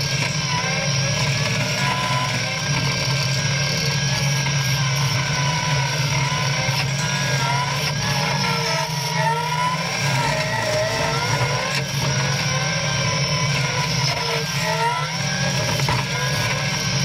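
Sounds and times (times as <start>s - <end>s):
brush cutter whine: 0.0s - 17.0s
diesel engine under load: 0.0s - 17.0s.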